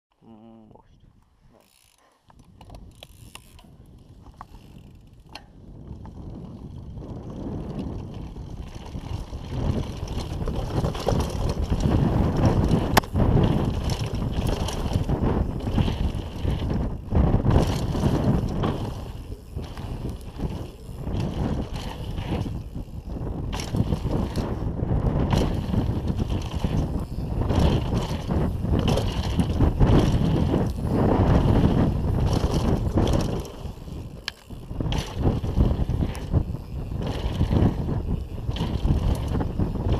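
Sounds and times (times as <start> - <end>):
bike rattling and knocking: 1.6 - 39.9
wind buffeting microphone: 2.3 - 39.9
tyres rumbling over dirt: 7.0 - 39.9.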